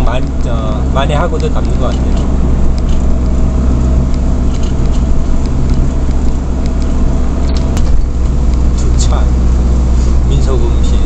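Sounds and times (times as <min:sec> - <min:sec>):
low engine hum: 0:00.0 - 0:11.0
road noise hiss on wet road: 0:00.0 - 0:11.0.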